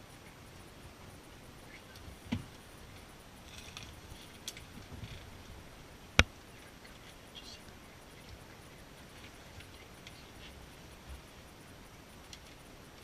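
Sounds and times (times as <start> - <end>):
faint rustling: 1.0 - 13.0.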